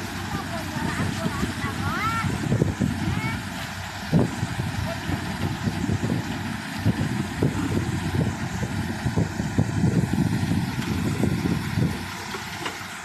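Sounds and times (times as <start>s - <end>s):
threshing machine running: 0.0s - 13.0s.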